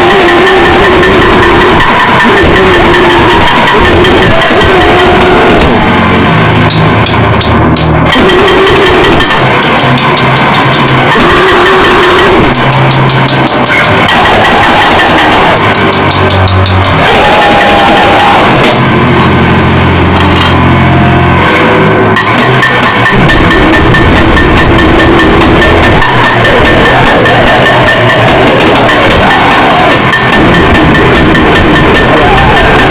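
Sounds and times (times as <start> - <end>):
harsh distorted noise music: 0.0 - 32.9.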